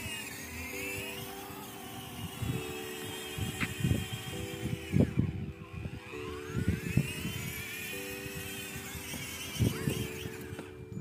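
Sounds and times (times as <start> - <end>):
electric toy motors whining: 0.0 - 11.0.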